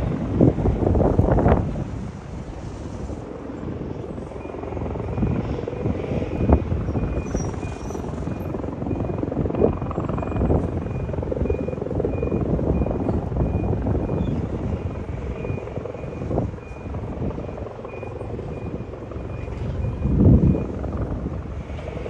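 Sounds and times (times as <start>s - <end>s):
helicopter hovering: 0.0s - 22.0s.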